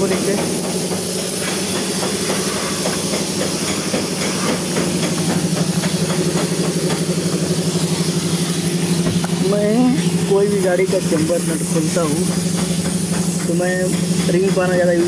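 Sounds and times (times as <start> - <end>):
machine pulsing hum: 0.0 - 14.2.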